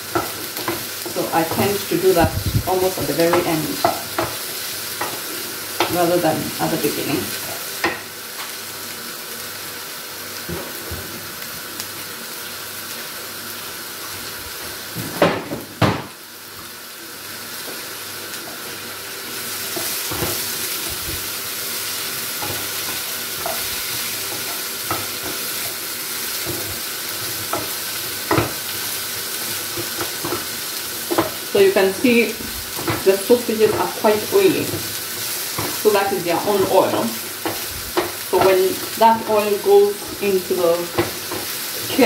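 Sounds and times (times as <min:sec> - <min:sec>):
food sizzling in frying pan: 0:00.0 - 0:42.0.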